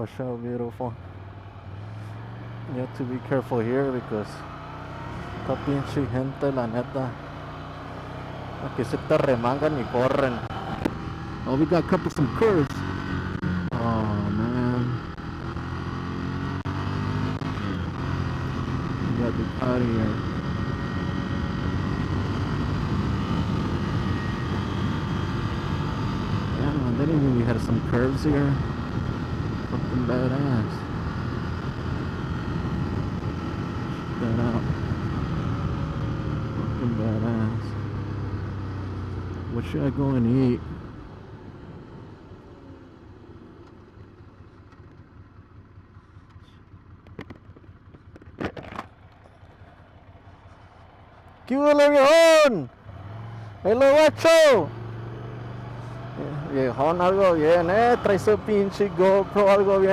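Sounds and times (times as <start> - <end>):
motorcycle engine running: 0.9 - 59.9.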